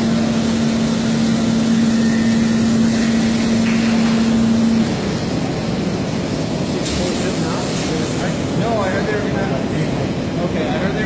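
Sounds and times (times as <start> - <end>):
milking machinery humming: 0.0 - 11.0.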